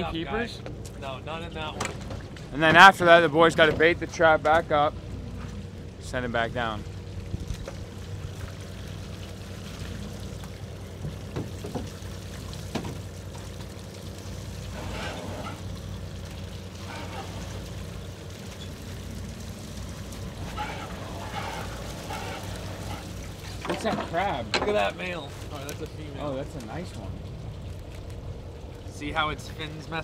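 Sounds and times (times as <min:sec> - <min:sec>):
boat engine idling: 0:00.0 - 0:30.0
running water: 0:00.0 - 0:30.0.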